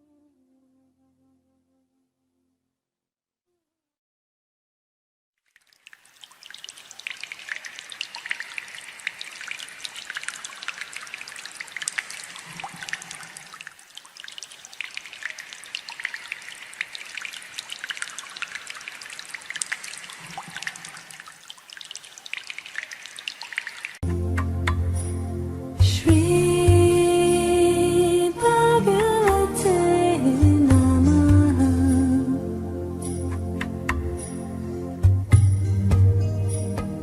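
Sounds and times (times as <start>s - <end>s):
water trickling and dripping: 5.4s - 32.3s, 33.0s - 37.0s.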